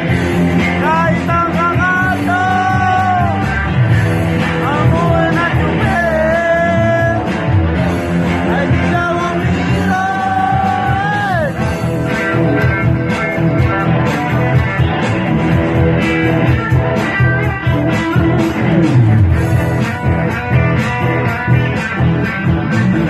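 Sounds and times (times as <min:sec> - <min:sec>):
bass guitar: 0:00.0 - 0:23.0
drums: 0:00.0 - 0:23.0
electric guitar: 0:00.0 - 0:23.0.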